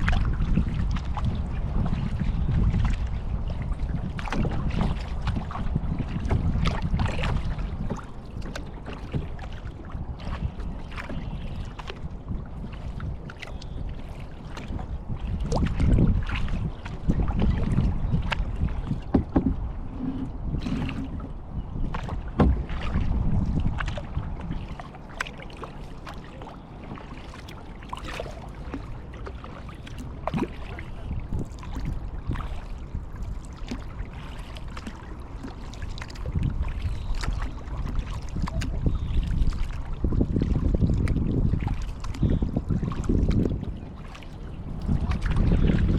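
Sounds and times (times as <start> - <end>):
paddle splashing water: 0.0 - 45.9
wind rumble on microphone: 0.0 - 45.9.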